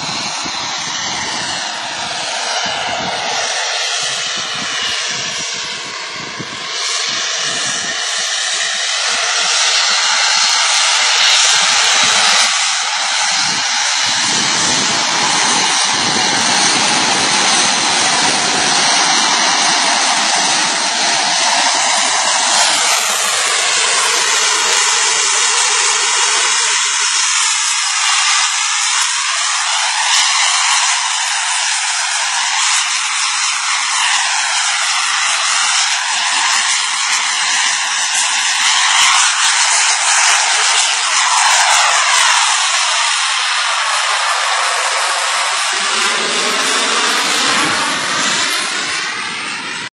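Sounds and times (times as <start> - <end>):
model jet engine rushing hiss: 0.0 - 49.9.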